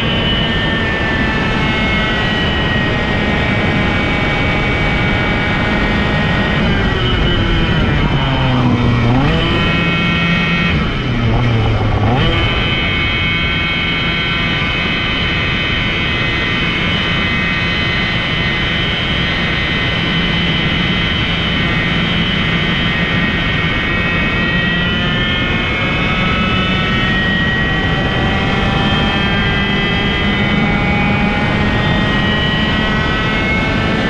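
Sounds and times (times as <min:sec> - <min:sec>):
kart engine at high revs: 0:00.0 - 0:34.0
wind and tyre noise: 0:00.0 - 0:34.0.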